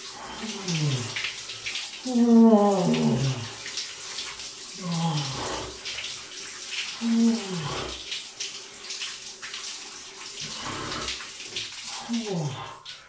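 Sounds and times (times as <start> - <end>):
shower water splattering: 0.0 - 13.0.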